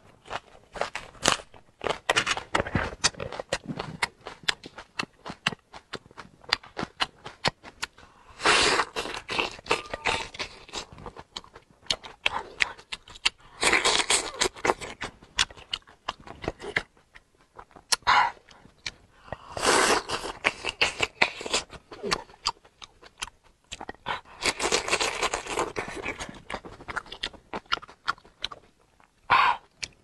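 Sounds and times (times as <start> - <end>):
wet chewing and sucking: 0.2 - 30.0.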